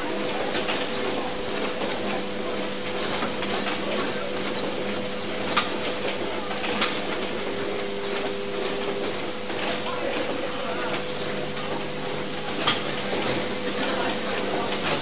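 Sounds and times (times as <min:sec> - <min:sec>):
machines humming: 0:00.0 - 0:15.0.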